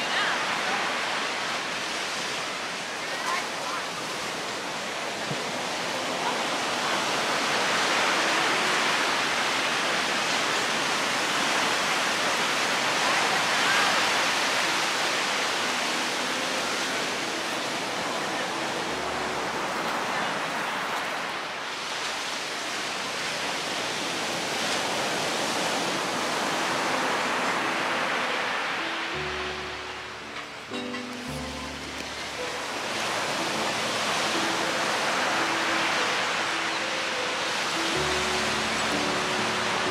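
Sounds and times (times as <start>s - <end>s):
ocean surf washing up beach: 0.0s - 39.9s.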